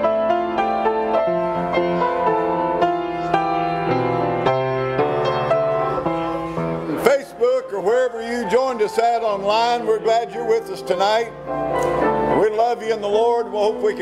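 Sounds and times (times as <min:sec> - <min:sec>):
slow gentle piano melody: 0:00.0 - 0:14.0.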